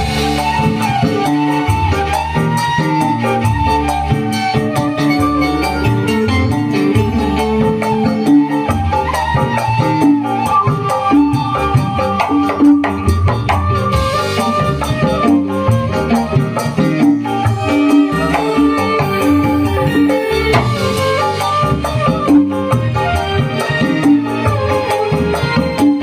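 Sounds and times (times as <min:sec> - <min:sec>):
band playing dance music: 0:00.0 - 0:26.0
drum and shaker rhythm: 0:00.0 - 0:26.0.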